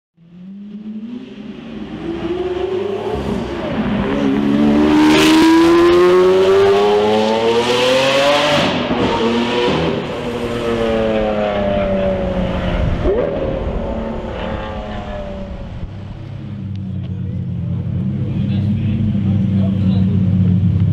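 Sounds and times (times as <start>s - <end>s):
car engine accelerating hard: 0.2s - 20.9s.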